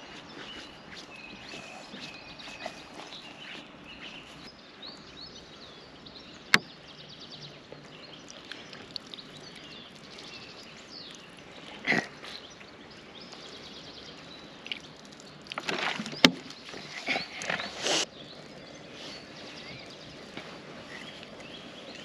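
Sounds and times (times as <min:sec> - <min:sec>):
birds chirping and singing: 0:00.0 - 0:22.0
steady outdoor hiss: 0:00.0 - 0:22.0.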